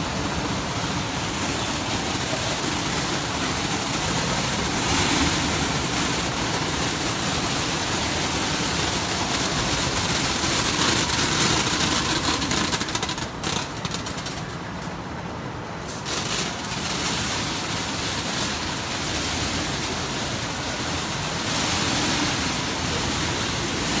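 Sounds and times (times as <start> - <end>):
sorting machine hum: 0.0 - 24.0.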